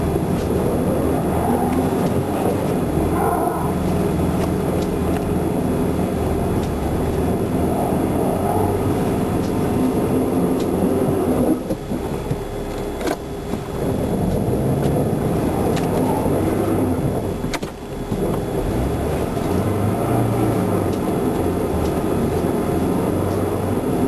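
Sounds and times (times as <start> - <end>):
car engine rumble: 0.0 - 24.0
road noise: 0.0 - 24.0.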